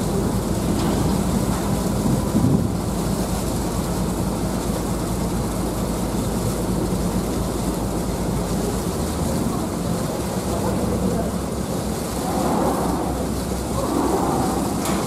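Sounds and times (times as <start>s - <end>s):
ferry engine rumbling: 0.0s - 15.0s
wind and water rushing: 0.0s - 15.0s.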